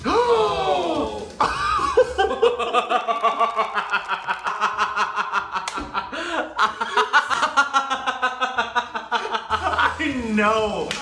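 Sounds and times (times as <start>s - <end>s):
men laughing: 1.4s - 10.3s.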